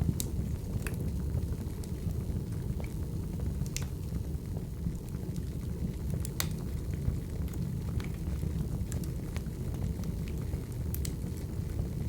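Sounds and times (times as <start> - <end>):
log fire crackling and popping: 0.0 - 12.0.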